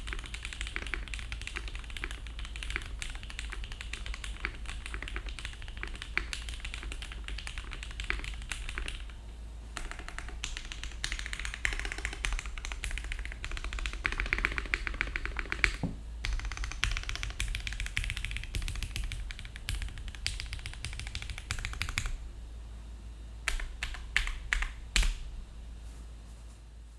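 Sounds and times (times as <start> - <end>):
fast typing on mechanical keyboard: 0.0 - 9.2, 9.8 - 22.2, 23.5 - 25.2.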